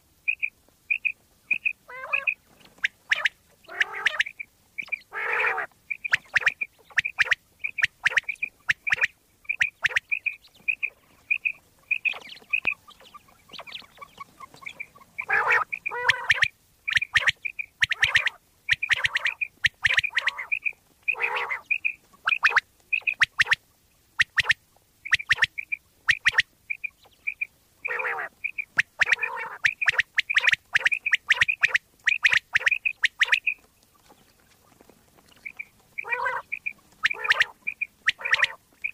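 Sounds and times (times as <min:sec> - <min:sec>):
harsh lower bird calls: 0:00.2 - 0:23.6, 0:24.2 - 0:34.4, 0:35.2 - 0:38.9
quail calling: 0:00.3 - 0:23.6, 0:24.2 - 0:38.9.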